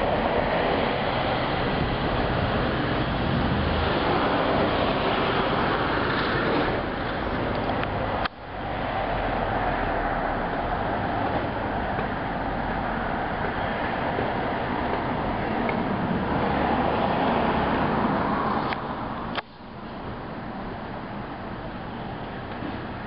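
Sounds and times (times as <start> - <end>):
outdoor background roar: 0.0 - 23.0.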